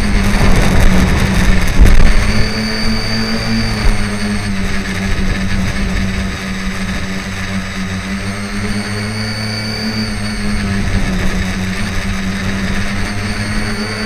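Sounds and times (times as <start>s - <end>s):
wind buffeting microphone: 0.0s - 9.1s, 9.8s - 14.0s
drone motors and propellers humming: 0.0s - 14.0s.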